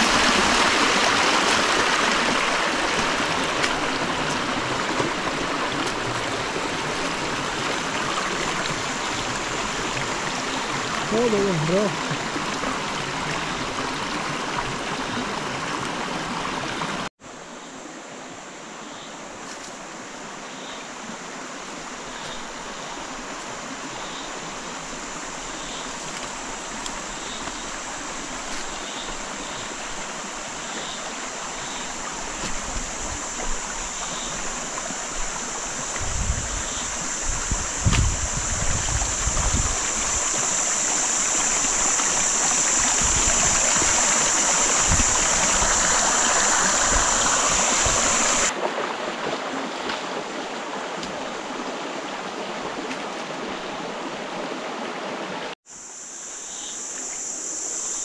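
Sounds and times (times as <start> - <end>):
creek water running over rocks: 0.0 - 18.1, 19.2 - 55.6.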